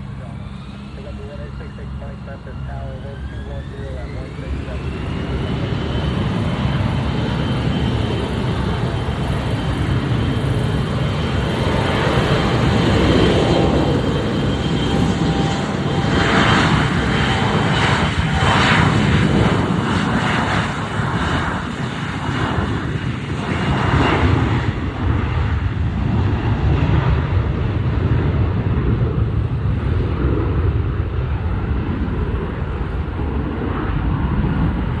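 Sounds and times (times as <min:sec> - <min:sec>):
jet taking off: 0:00.0 - 0:35.0.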